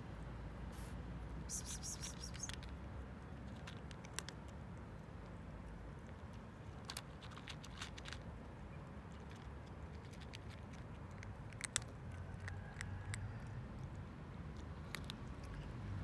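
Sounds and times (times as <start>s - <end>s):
cat crunching dry kibble: 1.7s - 16.0s.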